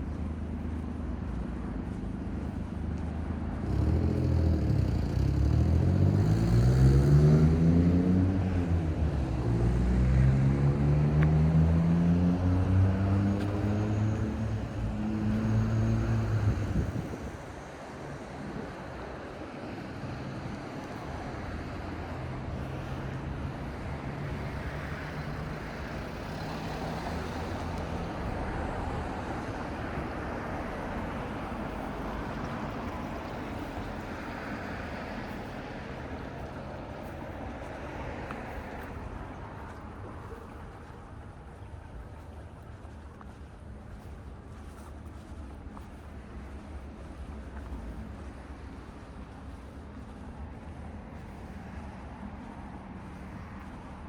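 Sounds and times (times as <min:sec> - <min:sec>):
faint engine hum: 0:00.0 - 0:54.0
street noise: 0:00.0 - 0:54.0.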